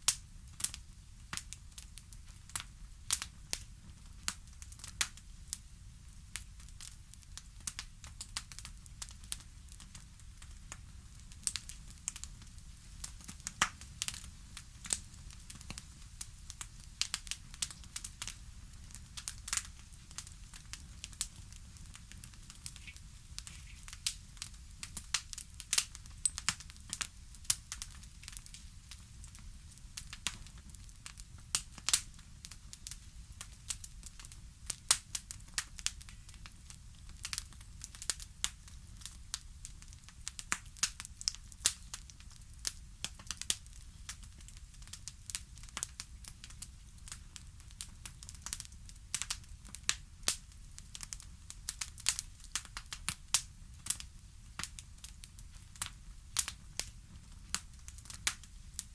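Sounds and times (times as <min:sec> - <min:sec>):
low rumble of flames: 0:00.0 - 0:58.9
wood fire crackling: 0:00.0 - 0:58.9.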